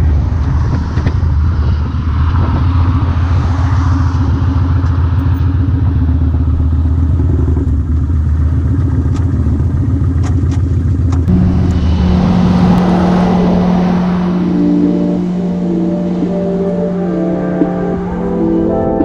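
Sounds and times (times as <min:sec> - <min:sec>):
motorcycle engine running: 0:00.0 - 0:19.0
road and wind rush: 0:00.0 - 0:19.0.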